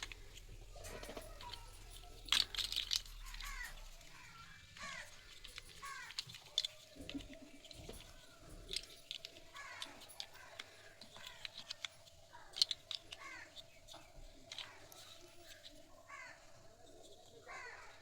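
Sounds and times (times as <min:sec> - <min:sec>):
birds chirping: 0:00.0 - 0:18.0
plastic toy blocks clicking: 0:00.0 - 0:18.0.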